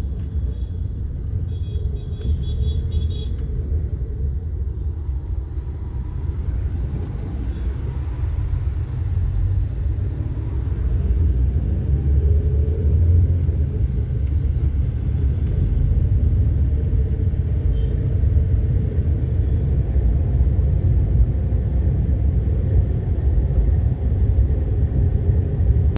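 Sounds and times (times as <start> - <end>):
car interior road rumble: 0.0 - 25.9.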